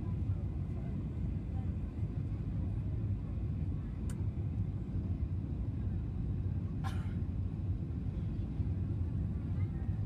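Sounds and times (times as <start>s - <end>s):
airliner engines and airflow rumble: 0.0s - 10.0s.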